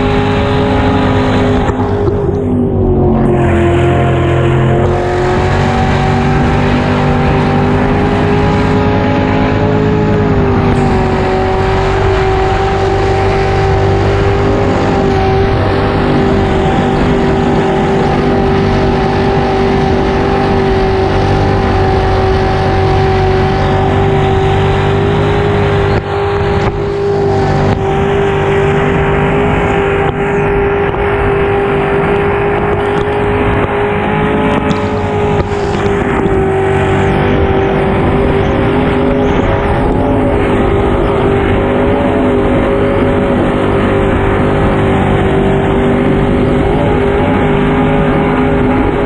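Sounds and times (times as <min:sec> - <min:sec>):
engine running hard: 0:00.0 - 0:49.0
wind noise: 0:00.0 - 0:49.0.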